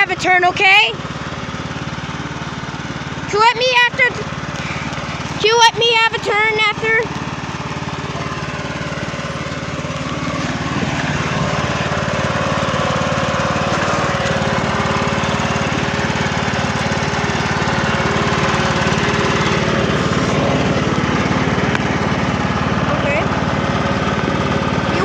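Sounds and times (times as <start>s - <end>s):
riding lawn mower engine running: 0.0s - 25.0s.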